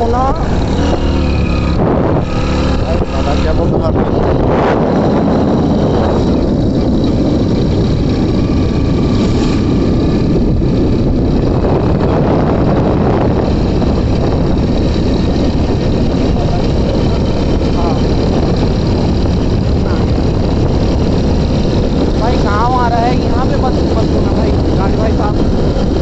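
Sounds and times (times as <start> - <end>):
motorcycle engine running: 0.0 - 26.0
wind noise on microphone: 0.0 - 26.0.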